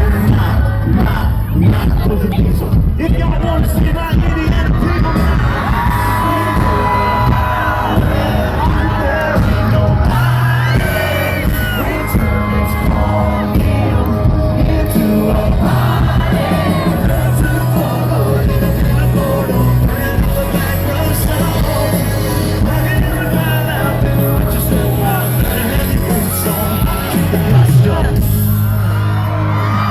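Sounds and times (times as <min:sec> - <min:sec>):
live country band playing: 0:00.0 - 0:29.9
person singing: 0:00.0 - 0:29.9
crowd whooping: 0:04.0 - 0:29.9.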